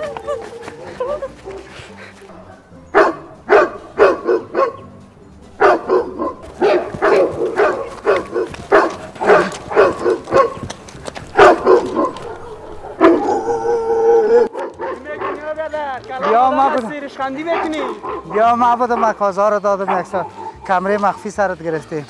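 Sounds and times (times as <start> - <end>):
recorded dog barking on loudspeaker: 2.3 - 5.0, 5.6 - 10.7, 11.3 - 21.3.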